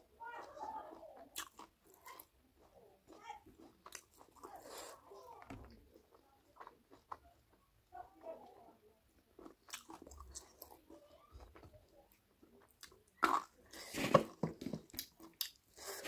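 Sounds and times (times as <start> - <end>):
person chewing food: 0.4 - 7.7, 9.2 - 16.0.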